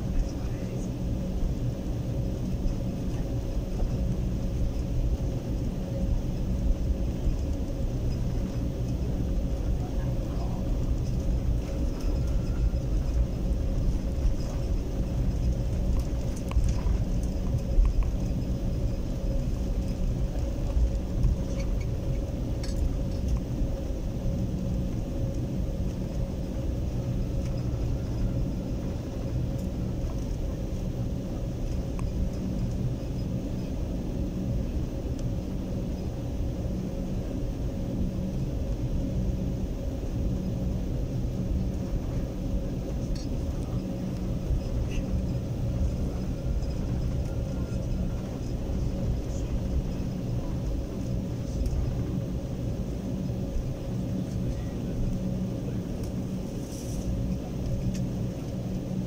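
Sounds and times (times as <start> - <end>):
aircraft rolling rumble: 0.0 - 59.0
jet engines idling hum: 0.0 - 59.0.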